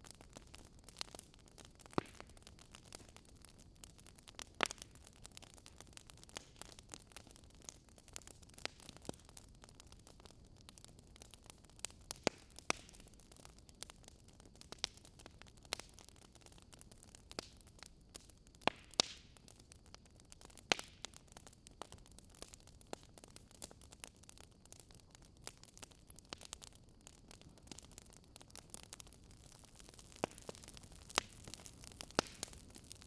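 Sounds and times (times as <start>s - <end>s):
soft steady hiss: 0.0s - 33.0s
wood fire crackling and popping: 0.0s - 33.0s.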